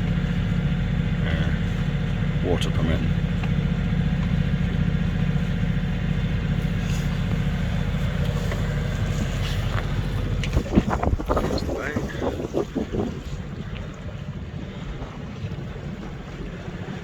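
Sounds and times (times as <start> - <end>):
boat engine running at low revs: 0.0 - 17.0.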